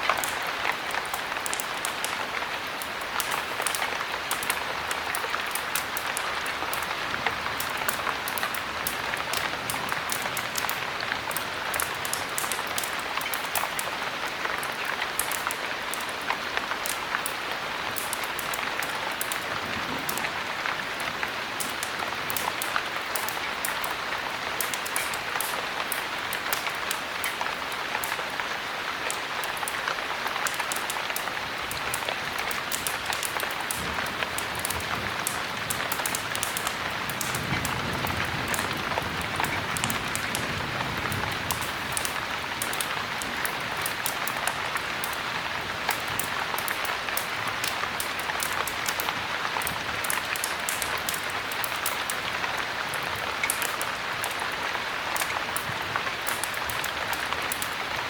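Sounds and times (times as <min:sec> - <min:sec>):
heavy rain with drop ticks: 0:00.0 - 0:58.0.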